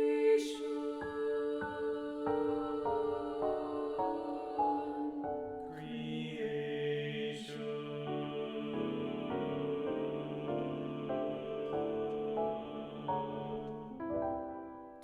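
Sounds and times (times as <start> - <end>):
choir singing sustained chords: 0.0 - 15.0
piano: 0.0 - 15.0.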